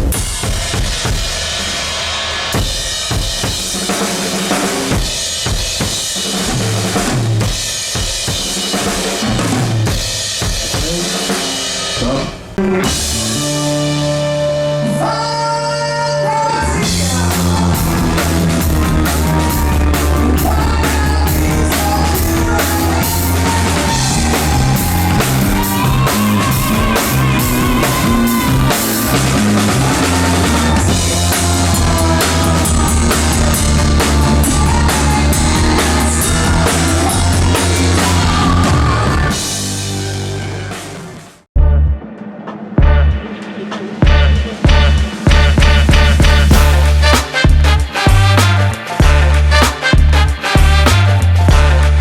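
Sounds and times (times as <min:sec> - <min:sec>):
drum kit beat: 0:00.0 - 0:14.5, 0:16.8 - 0:52.0
rock band playing live: 0:00.0 - 0:41.4, 0:42.8 - 0:52.0.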